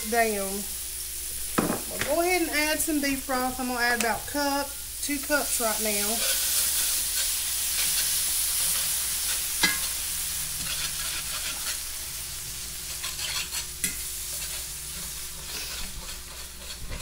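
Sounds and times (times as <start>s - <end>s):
broth sizzling in a skillet: 0.0s - 17.0s.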